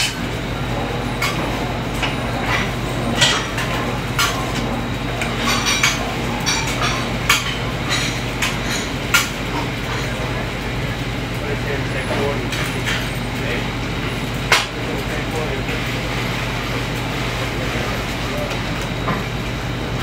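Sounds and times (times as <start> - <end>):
ventilation hum and rush: 0.0 - 20.0.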